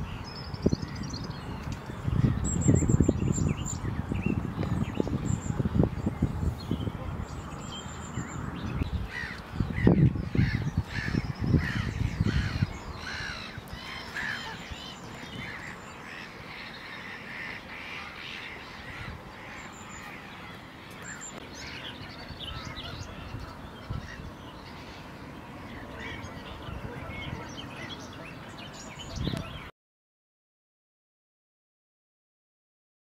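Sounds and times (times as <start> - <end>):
birds calling: 0.0 - 29.7.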